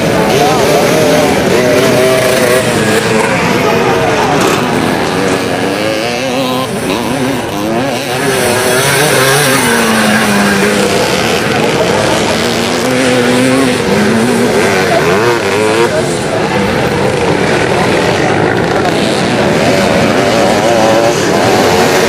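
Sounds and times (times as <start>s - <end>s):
motocross engines revving: 0.0s - 22.0s.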